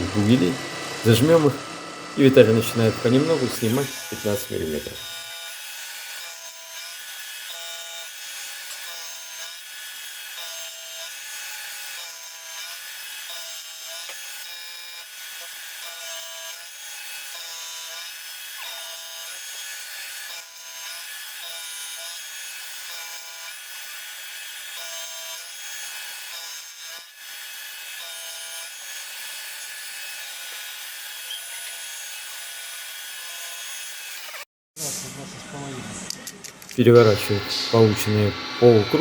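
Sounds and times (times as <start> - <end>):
milling cutter cutting metal: 0.0 - 34.5, 36.2 - 39.0.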